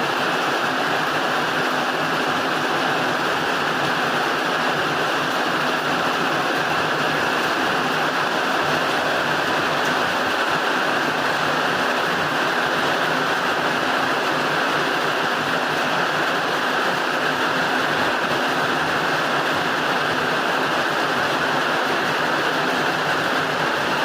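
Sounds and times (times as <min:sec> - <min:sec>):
heavy rain on a roof: 0:00.0 - 0:24.0.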